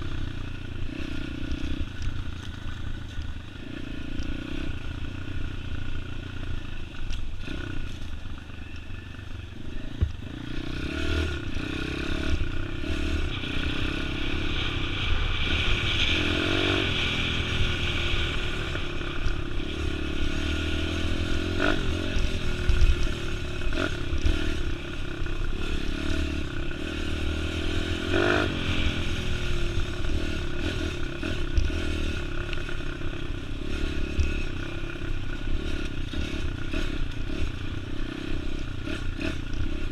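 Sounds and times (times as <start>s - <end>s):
pit bike engine revving: 0.0s - 2.1s, 3.5s - 6.8s, 7.4s - 39.9s.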